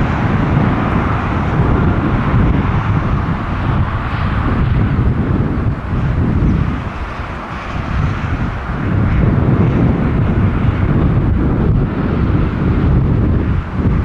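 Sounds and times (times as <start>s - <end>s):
jet engines low rumble: 0.0s - 14.0s
wind buffeting microphone: 0.0s - 14.0s.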